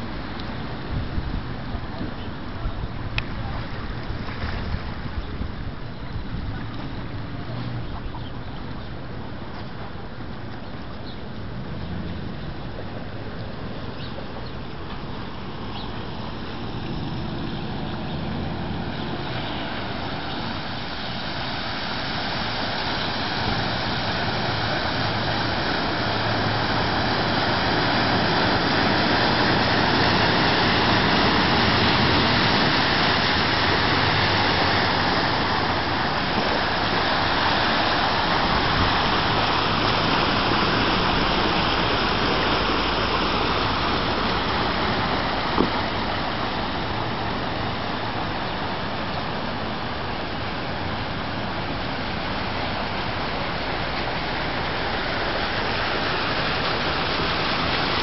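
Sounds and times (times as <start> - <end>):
low engine hum: 0.0 - 58.0
tyres splashing through water: 0.0 - 58.0.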